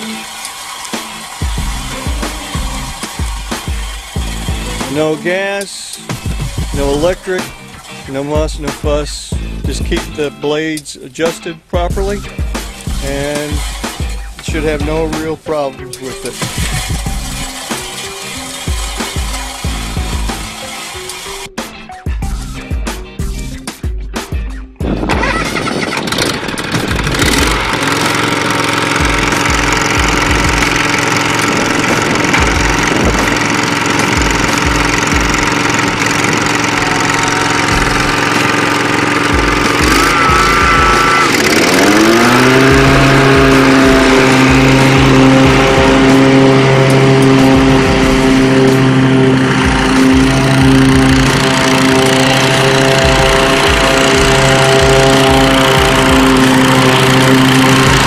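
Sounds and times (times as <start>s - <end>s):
lawn mower engine running: 0.0s - 58.0s.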